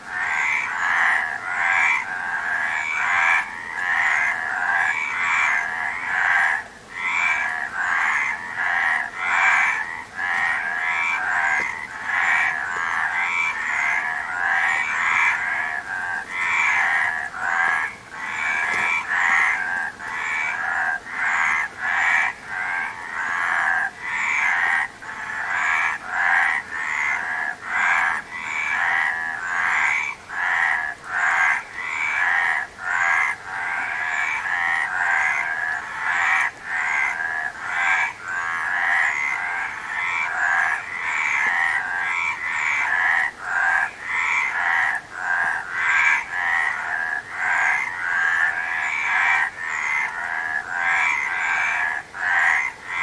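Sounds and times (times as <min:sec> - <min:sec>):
frogs croaking: 0:00.0 - 0:53.0.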